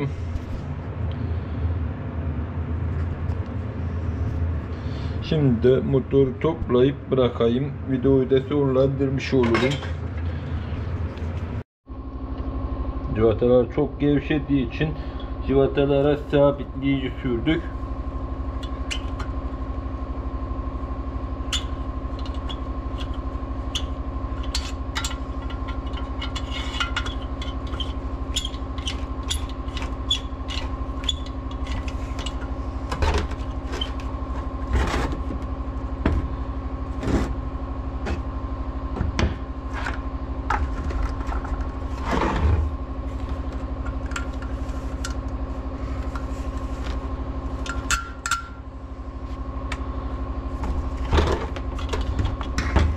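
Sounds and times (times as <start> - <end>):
steady mechanical hum: 0.0 - 52.9.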